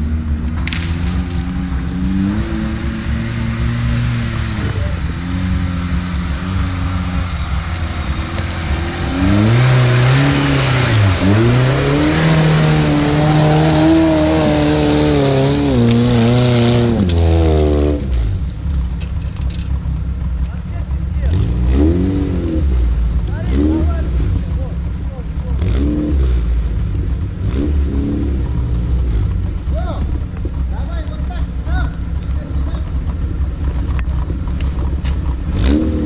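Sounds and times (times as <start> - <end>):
vehicle engine revving: 0.0 - 36.0
wheels spinning in mud: 0.0 - 36.0.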